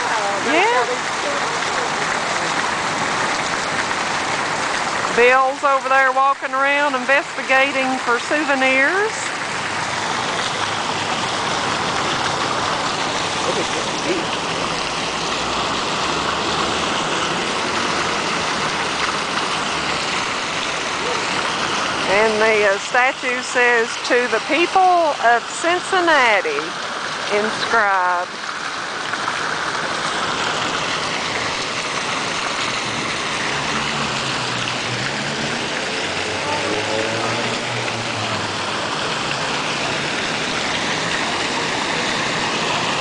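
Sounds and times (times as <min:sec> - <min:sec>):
fountain water splashing into basin: 0:00.0 - 0:43.0.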